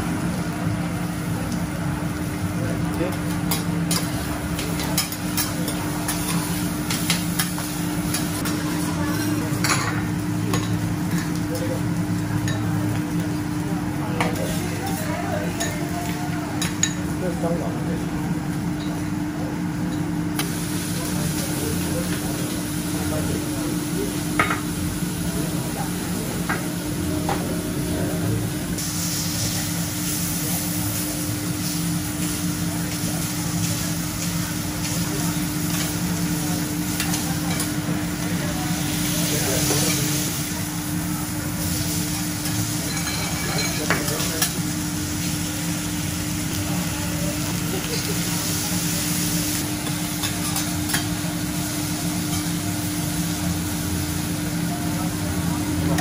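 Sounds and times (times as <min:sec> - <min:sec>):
seafood sizzling on griddle: 0:00.0 - 0:27.8, 0:28.8 - 0:56.0
low mechanical hum: 0:00.0 - 0:56.0
background chatter: 0:00.8 - 0:56.0.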